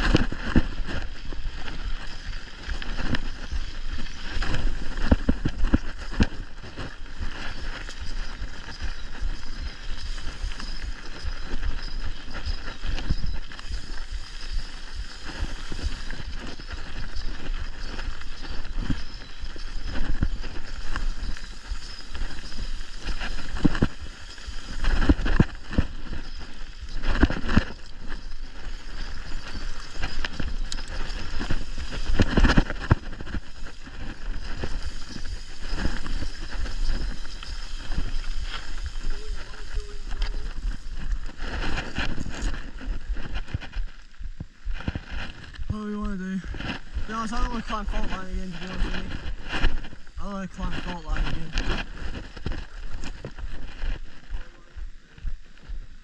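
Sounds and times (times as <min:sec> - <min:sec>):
mountain bike rattling over dirt: 0:00.0 - 0:56.0.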